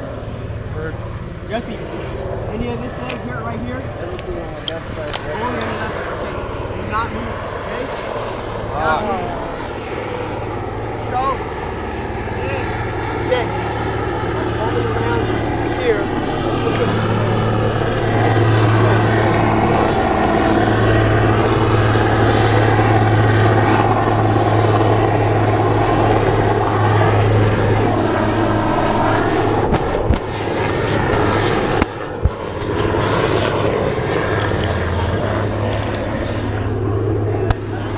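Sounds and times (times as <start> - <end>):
engine drone: 0.0 - 37.9.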